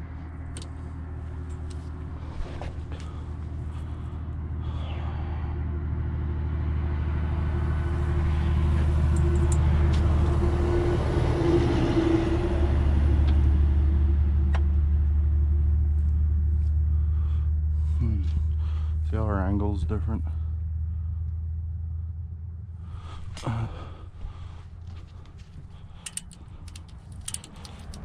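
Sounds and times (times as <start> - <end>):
excavator diesel engine droning: 0.0 - 28.0.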